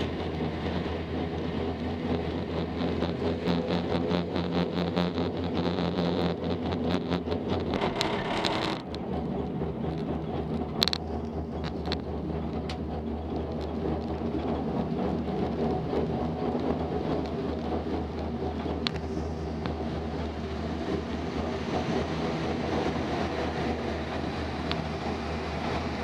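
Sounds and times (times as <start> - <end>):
cable car humming: 0.0 - 26.0
rumble with rapid clicks: 0.0 - 26.0.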